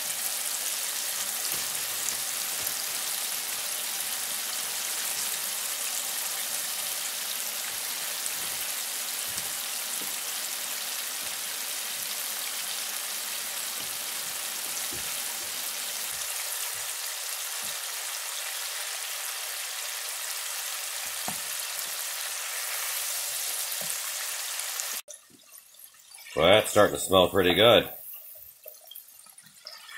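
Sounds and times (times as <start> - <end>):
fish deep-frying in hot oil: 0.0 - 26.4, 28.0 - 29.9.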